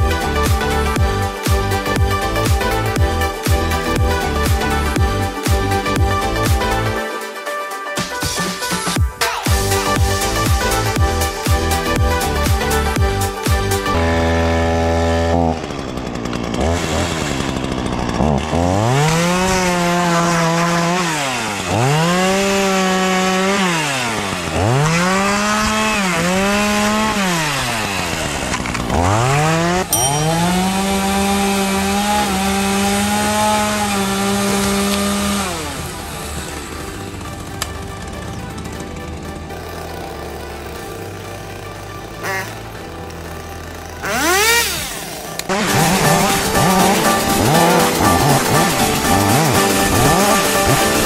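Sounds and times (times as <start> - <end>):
chainsaw revving and cutting: 0.0 - 51.0.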